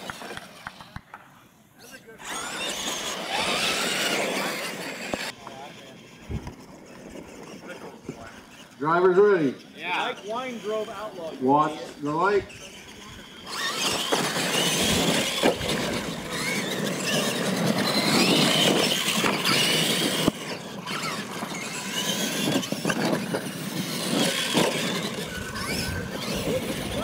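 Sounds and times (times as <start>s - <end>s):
electric motors whining: 1.9s - 27.0s
tyres rumbling on loose dirt: 2.2s - 9.0s, 11.4s - 27.0s.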